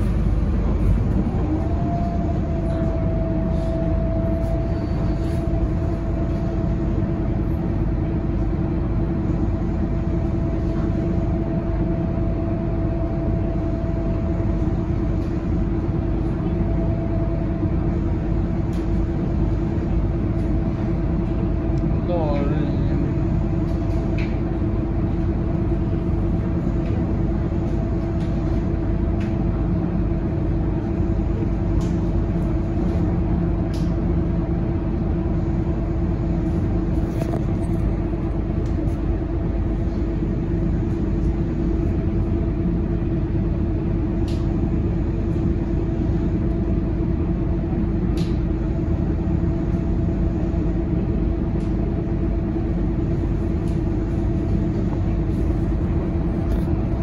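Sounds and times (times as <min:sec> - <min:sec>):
diesel bus engine idling: 0:00.0 - 0:57.0.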